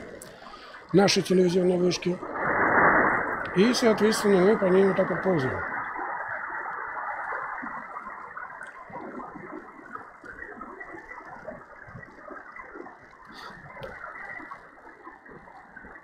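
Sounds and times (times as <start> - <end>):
radio band noise hiss: 0.0 - 16.0.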